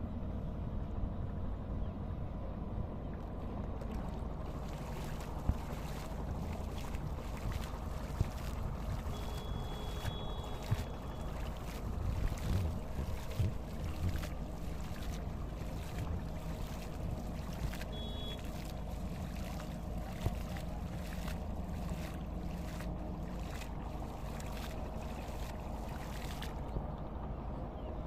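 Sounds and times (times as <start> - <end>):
hand splashing pond water: 3.9 - 26.6.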